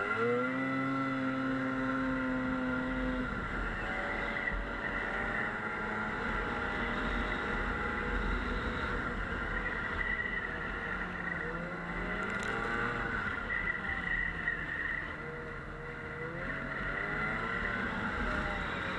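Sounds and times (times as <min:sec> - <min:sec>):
snowmobile engine running: 0:00.0 - 0:18.9.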